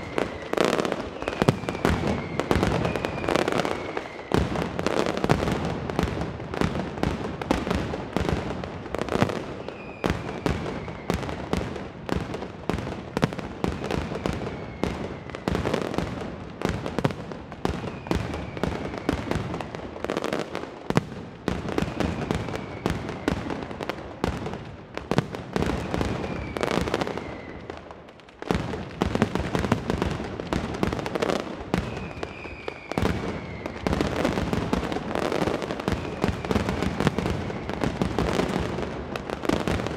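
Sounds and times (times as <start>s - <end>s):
firecrackers exploding: 0.0s - 39.9s.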